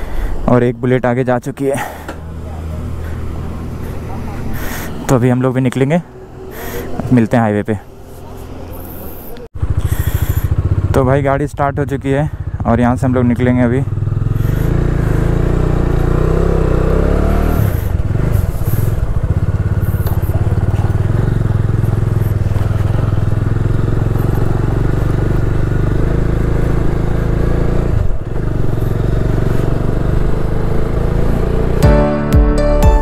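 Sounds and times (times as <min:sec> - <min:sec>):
motorcycle engine accelerating: 0:01.8 - 0:32.8.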